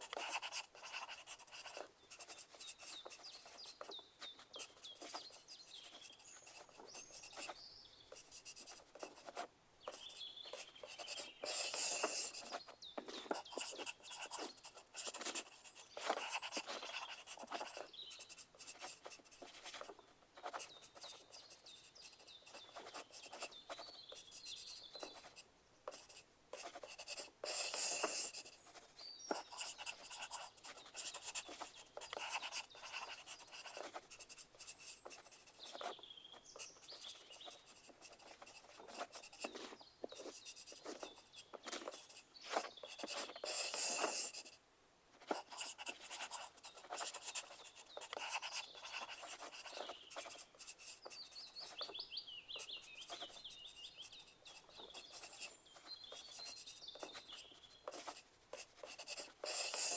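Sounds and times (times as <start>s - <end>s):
pencil writing on paper: 0.0s - 44.6s, 45.2s - 59.9s.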